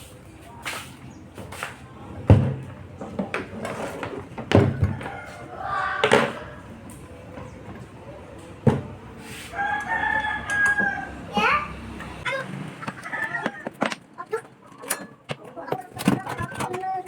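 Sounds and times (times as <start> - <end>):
faint voices: 0.0 - 17.0.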